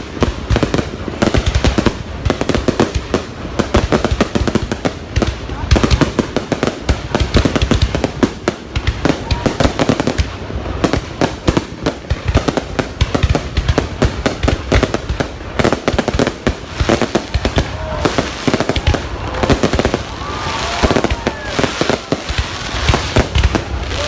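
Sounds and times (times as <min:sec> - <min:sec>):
fireworks bangs and crackle: 0:00.0 - 0:24.0.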